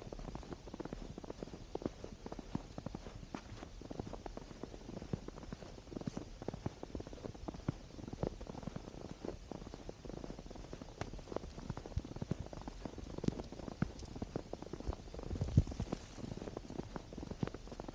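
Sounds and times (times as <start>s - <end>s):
footsteps crunching through snow: 0.0s - 17.9s.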